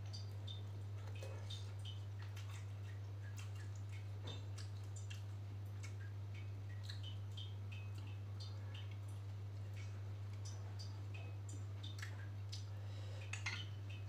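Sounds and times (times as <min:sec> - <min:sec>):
steady low hum: 0:00.0 - 0:14.0
wet chewing clicks: 0:00.1 - 0:14.0.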